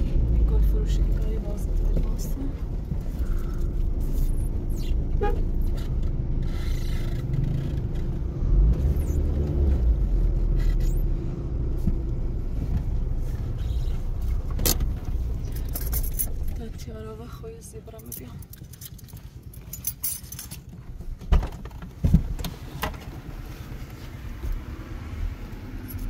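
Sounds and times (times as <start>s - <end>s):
car rumbling: 0.0s - 26.0s.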